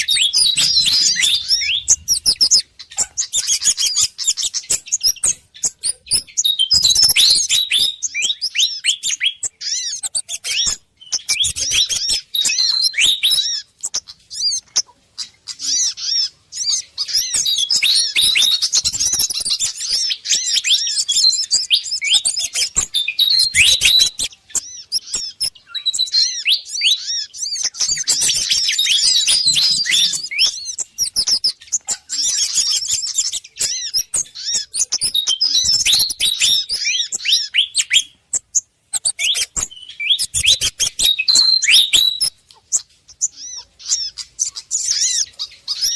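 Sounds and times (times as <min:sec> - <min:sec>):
rapid high-pitched bird chirps: 0:00.0 - 0:45.9.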